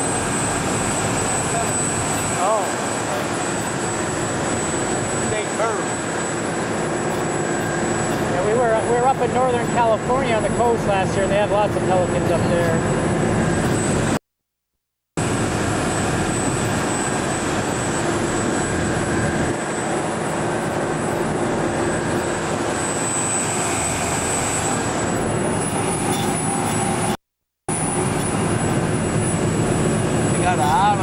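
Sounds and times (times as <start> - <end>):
ferry engines droning: 0.0 - 14.2, 15.2 - 31.0.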